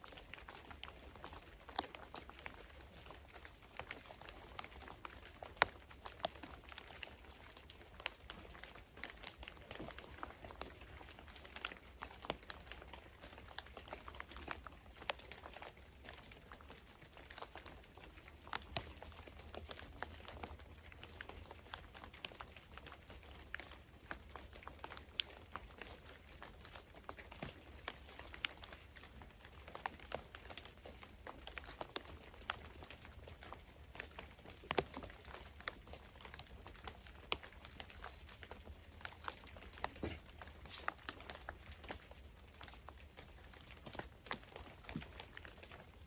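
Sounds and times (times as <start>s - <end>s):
raindrops pattering: 0.0s - 46.0s.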